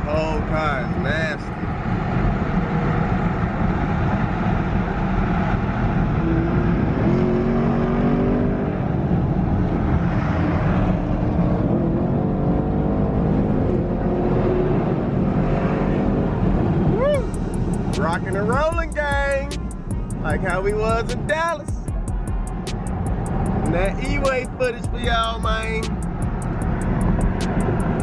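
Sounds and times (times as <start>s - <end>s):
car engines droning: 0.0s - 28.0s
road noise: 0.0s - 28.0s.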